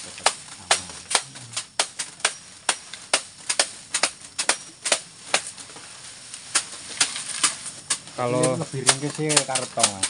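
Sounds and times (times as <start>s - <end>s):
machetes chopping grass stalks: 0.0s - 10.0s.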